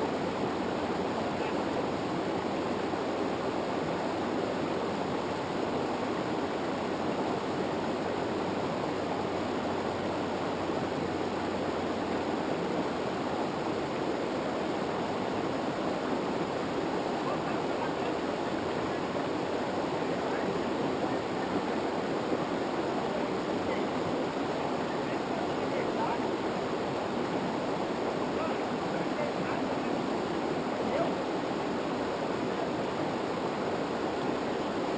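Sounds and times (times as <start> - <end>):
river water rushing over rapids: 0.0 - 34.9.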